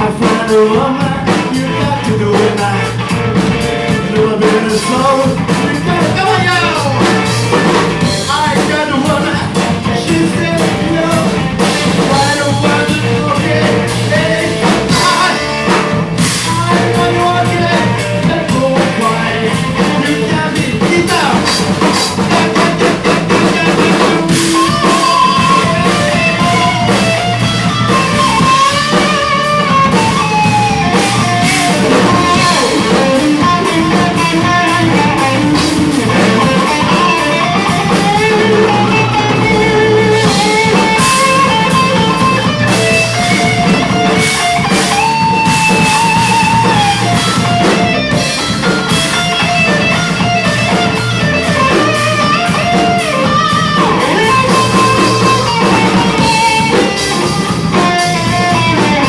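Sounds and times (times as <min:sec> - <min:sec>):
lead guitar with bending notes: 0:00.0 - 0:59.0
rock band playing: 0:00.0 - 0:59.0.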